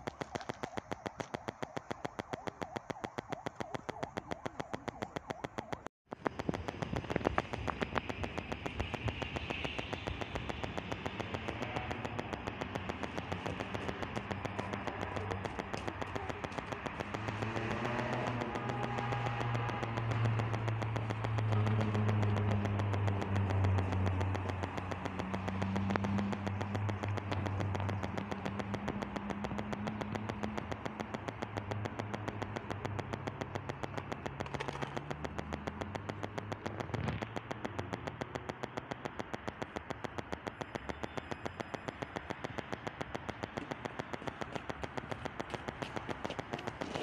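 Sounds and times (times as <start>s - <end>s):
vehicle engine hum: 3.9s - 47.0s.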